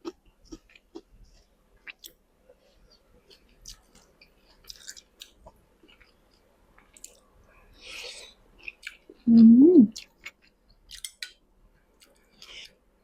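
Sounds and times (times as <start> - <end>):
person chewing food: 0.0 - 11.2, 12.0 - 12.8.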